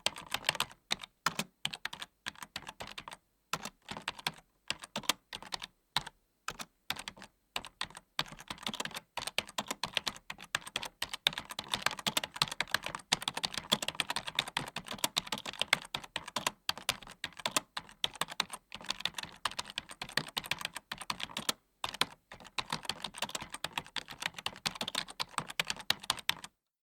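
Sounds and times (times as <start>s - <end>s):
keyboard typing: 0.0s - 26.6s.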